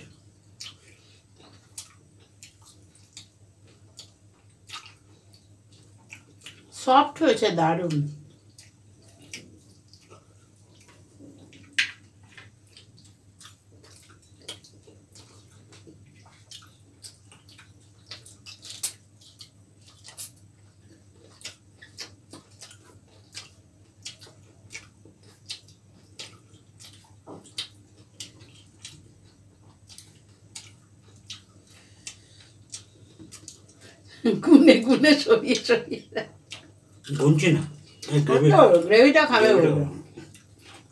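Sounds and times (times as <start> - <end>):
wet chewing and lip-smacking: 0.0 - 6.8, 7.8 - 34.2, 35.5 - 40.9
low steady hum: 0.0 - 40.9.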